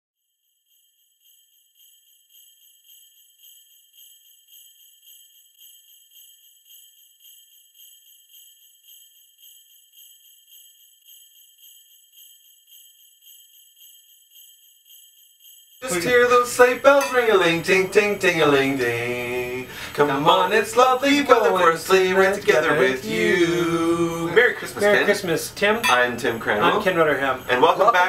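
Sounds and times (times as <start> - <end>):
sleigh bells jingling: 0.2 - 28.0.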